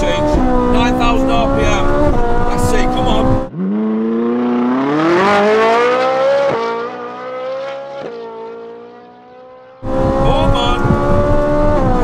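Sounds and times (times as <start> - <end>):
sports car accelerating: 0.0 - 12.0.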